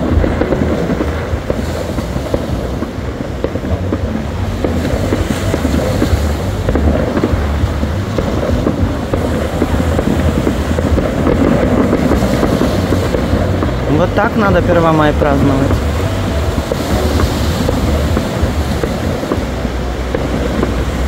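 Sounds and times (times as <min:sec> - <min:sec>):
fireworks popping and crackling: 0:00.0 - 0:21.0
wind rumbling on microphone: 0:00.0 - 0:21.0.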